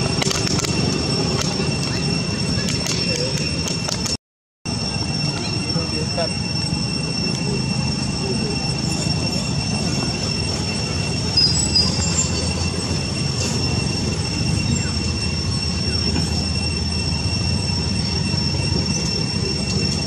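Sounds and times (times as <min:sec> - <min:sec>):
high-pitched two-tone whine: 0:00.0 - 0:20.0.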